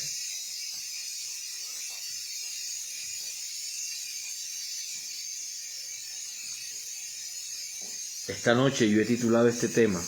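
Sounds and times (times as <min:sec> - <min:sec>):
faint scattered ticks: 0:00.0 - 0:10.0
high-pitched hiss: 0:00.0 - 0:10.0.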